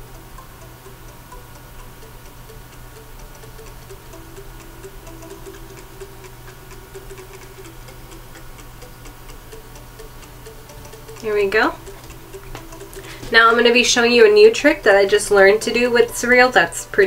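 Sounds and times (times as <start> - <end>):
faint quick ticking: 0.0 - 17.0
steady low hum: 0.0 - 17.0.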